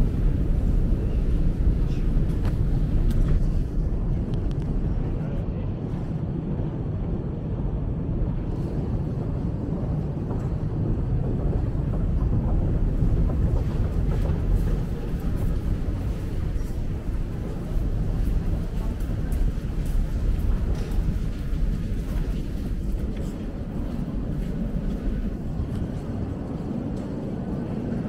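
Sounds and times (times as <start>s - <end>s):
escalator rumbling: 0.0s - 6.3s, 8.2s - 28.0s
station hall hum: 0.0s - 28.0s.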